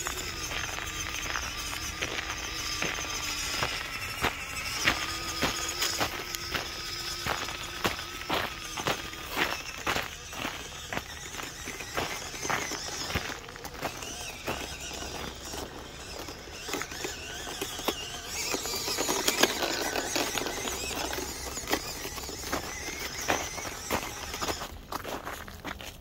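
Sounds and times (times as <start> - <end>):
small electric motor whine: 0.0 - 26.0
tyres crunching through icy snow: 0.0 - 26.0.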